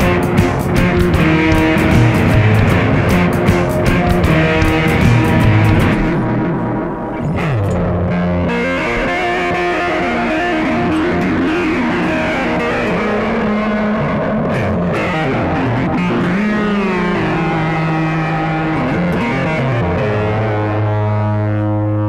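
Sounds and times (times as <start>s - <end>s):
electric guitar sliding notes: 0.0s - 22.0s.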